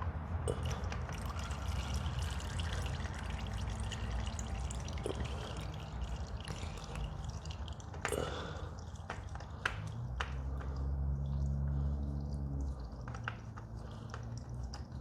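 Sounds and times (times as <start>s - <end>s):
oil dripping into pan: 0.5s - 15.0s.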